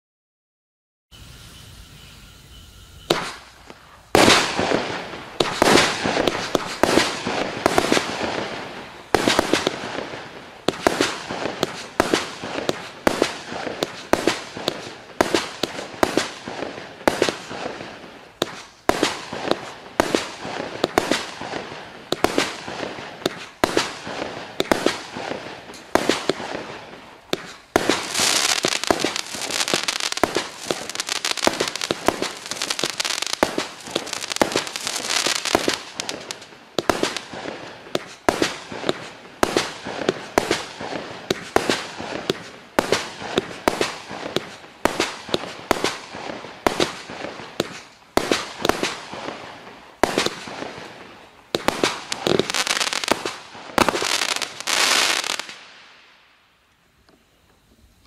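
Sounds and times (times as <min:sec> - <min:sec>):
fireworks shots crackling: 0:03.0 - 0:56.7.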